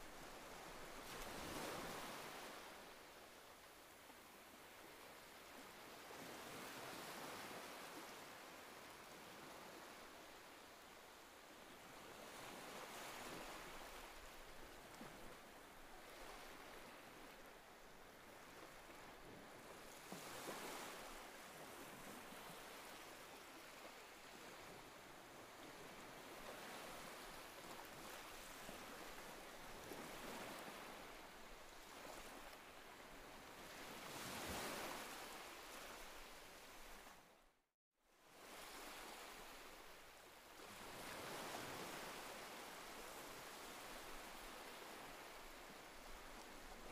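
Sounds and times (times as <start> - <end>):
waves washing onto sandy beach: 0.0 - 37.3, 38.3 - 46.9.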